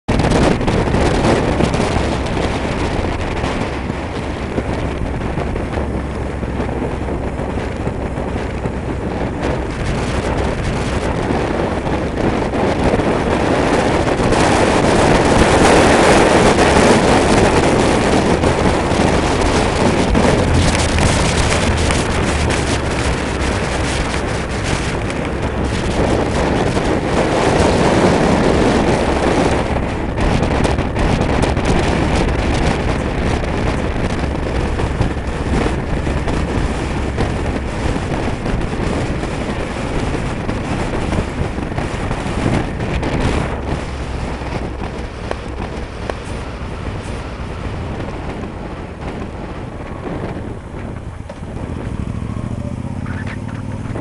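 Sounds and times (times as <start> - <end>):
wind rushing over microphone: 0.0 - 54.0
motorcycle engine running: 0.1 - 54.0.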